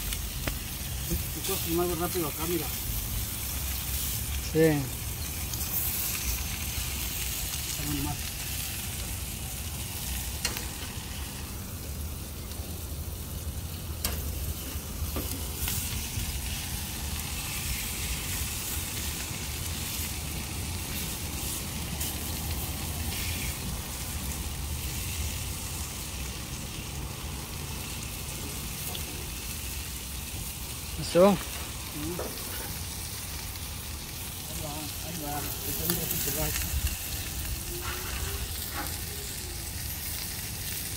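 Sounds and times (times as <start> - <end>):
meat sizzling on grill: 0.0 - 40.9.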